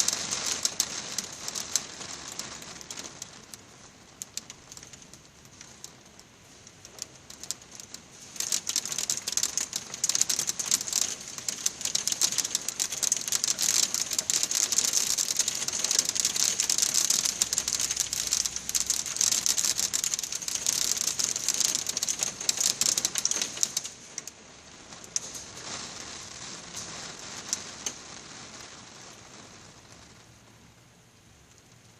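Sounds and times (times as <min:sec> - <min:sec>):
hail clattering on hard surface: 0:00.0 - 0:30.5.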